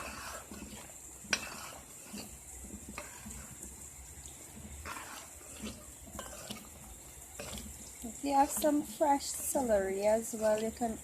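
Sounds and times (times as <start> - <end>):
wet scrapes and sloshes: 0.0 - 10.8
spoon stirring pot: 0.0 - 11.0.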